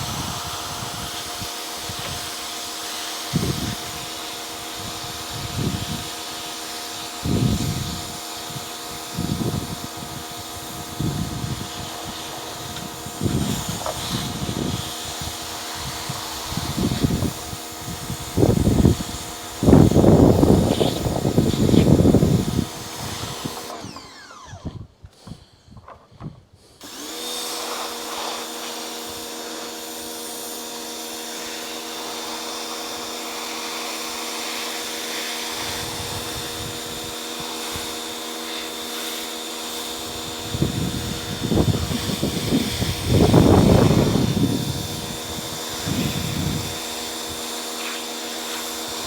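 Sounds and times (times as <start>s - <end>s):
power tool motor running: 0.0s - 25.4s, 26.8s - 49.0s.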